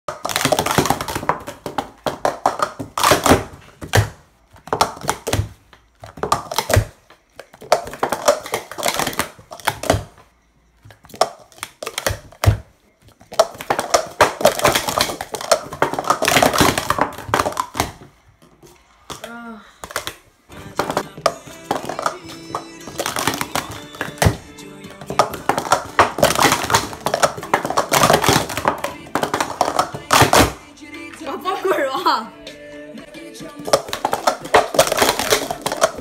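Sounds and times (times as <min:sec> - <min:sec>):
plastic cups clattering: 0:00.1 - 0:31.8, 0:33.2 - 0:36.0.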